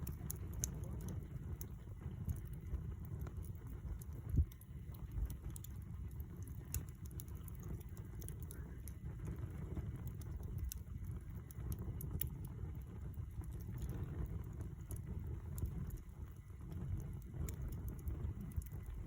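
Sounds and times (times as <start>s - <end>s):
campfire low rumble: 0.0s - 19.0s
fire crackles and pops: 0.0s - 19.0s.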